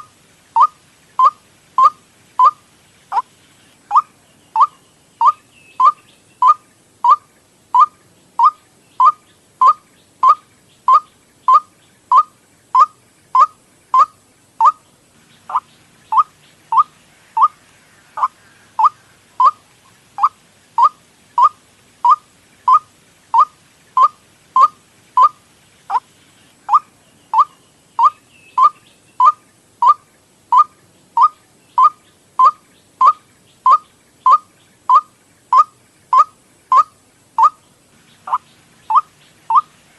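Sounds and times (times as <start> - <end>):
waterhen call repeated: 0.0 - 3.3, 3.9 - 14.8, 15.5 - 26.1, 26.7 - 37.6, 38.2 - 39.9.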